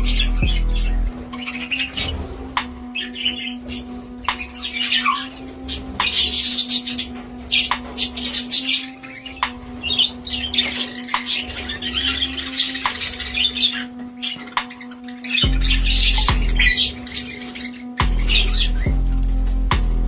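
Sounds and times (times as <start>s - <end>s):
budgerigars chattering: 0.0s - 19.6s.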